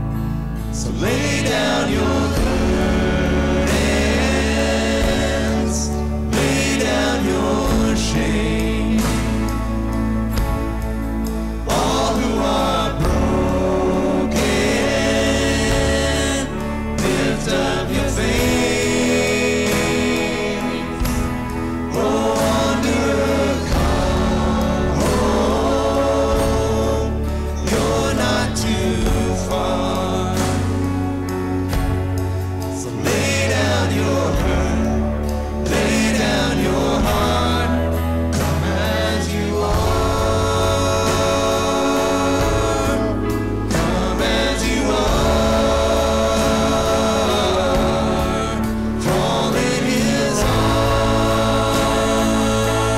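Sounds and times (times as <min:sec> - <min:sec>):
church choir with accompaniment: 0:00.0 - 0:52.9.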